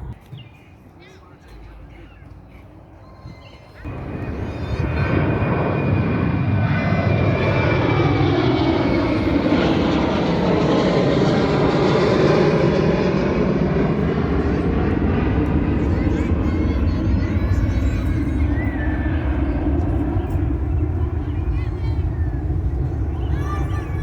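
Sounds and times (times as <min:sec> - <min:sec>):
airplane engine roar overhead: 0:00.0 - 0:24.0
jet engine whine: 0:03.0 - 0:24.0.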